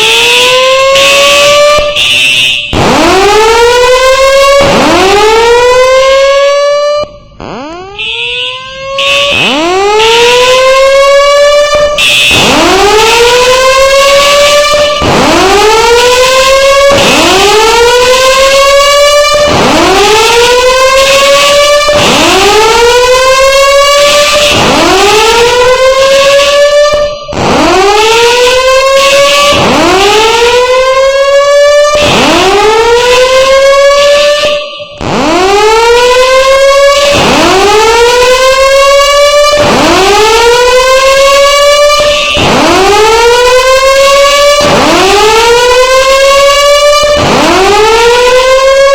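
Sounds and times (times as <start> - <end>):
fire alarm whoop tone: 0.0 - 48.9.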